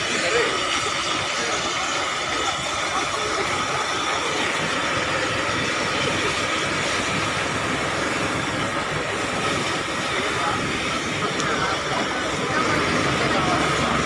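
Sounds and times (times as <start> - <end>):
fire roaring: 0.0 - 14.0
hose water spraying: 0.0 - 14.0.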